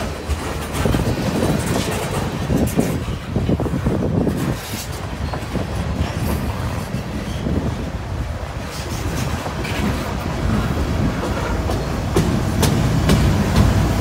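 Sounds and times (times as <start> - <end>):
train wheels rumbling on rail: 0.0 - 14.0
wheels clacking over rail joints: 0.0 - 14.0.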